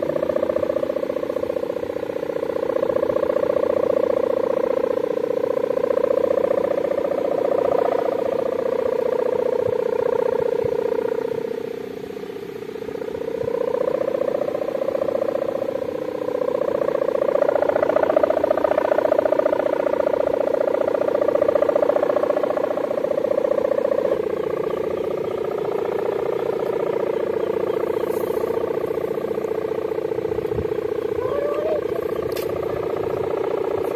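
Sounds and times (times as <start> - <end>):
kite hummer droning: 0.0 - 33.9.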